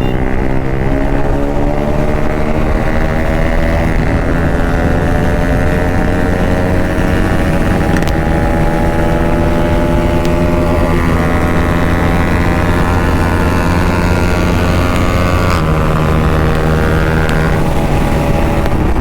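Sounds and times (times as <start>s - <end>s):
heavy wind: 0.0s - 19.0s
motorcycle engine at high revs: 0.0s - 19.0s
road rumble: 0.0s - 19.0s.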